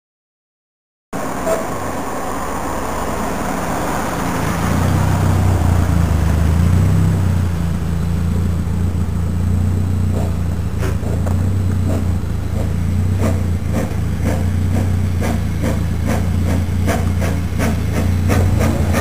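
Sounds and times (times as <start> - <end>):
car driving past: 1.2 - 19.0
low engine hum: 1.2 - 19.0.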